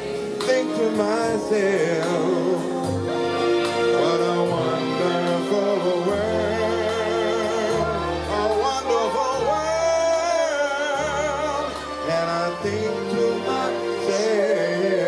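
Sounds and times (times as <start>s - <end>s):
backing band: 0.0s - 15.0s
person singing soul-gospel: 0.0s - 15.0s
sustained bass notes: 0.9s - 15.0s.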